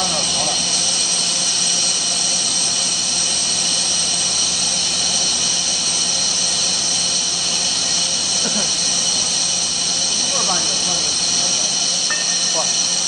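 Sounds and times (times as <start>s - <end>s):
lathe cutting steel hiss: 0.0s - 13.0s
steady machine tones: 0.0s - 13.0s.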